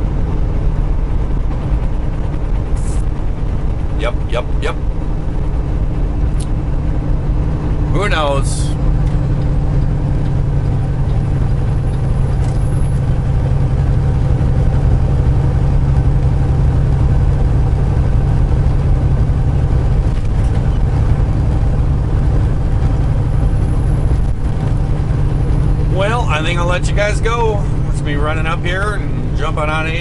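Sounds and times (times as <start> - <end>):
diesel engine drone in cab: 0.0 - 30.0.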